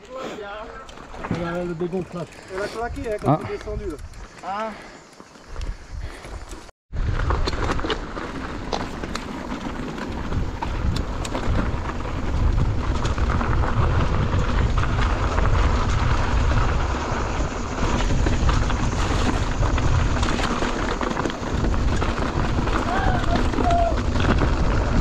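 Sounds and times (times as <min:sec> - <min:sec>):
wind buffeting microphone: 0:01.1 - 0:07.7, 0:08.6 - 0:25.0.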